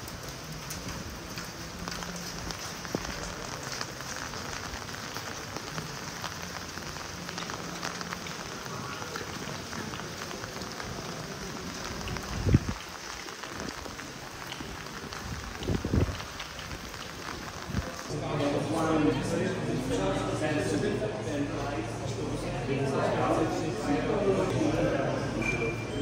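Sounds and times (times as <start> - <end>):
rain on cobblestones and umbrellas: 0.0 - 26.0.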